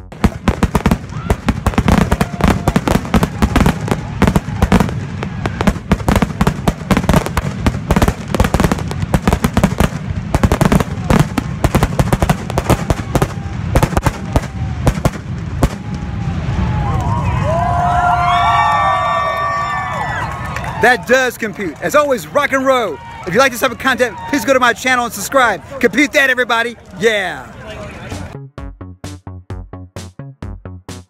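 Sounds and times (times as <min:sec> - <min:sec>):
fireworks bangs and crackles: 0:00.0 - 0:27.4.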